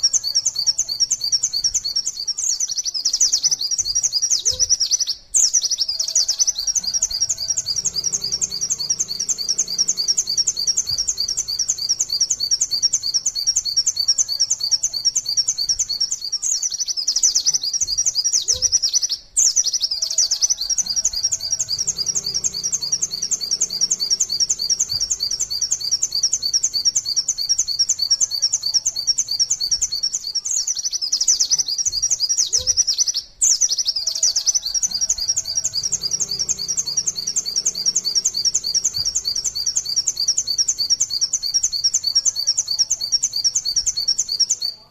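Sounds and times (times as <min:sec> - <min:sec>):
bird rapid high chirping song: 0:00.0 - 0:44.9.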